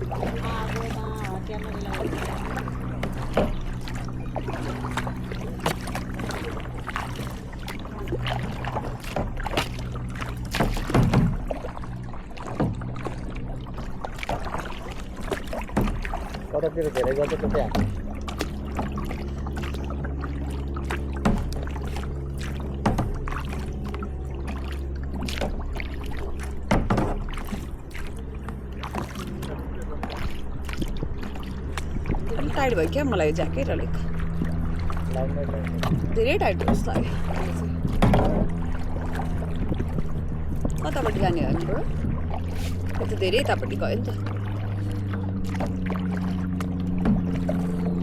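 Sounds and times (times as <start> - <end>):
paddle knocks: 0.0 - 48.0
paddles splashing in water: 0.0 - 48.0
steady low hum: 0.0 - 48.0.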